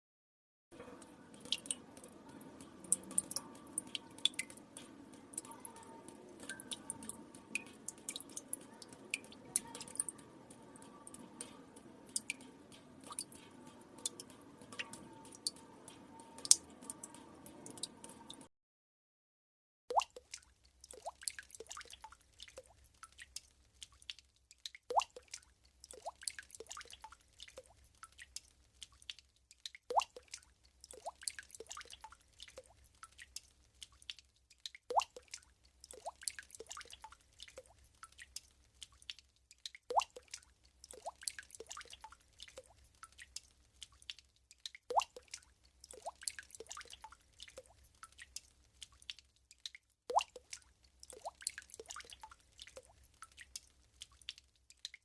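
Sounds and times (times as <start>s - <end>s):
water drops dripping into water: 0.8s - 18.5s, 19.9s - 55.0s.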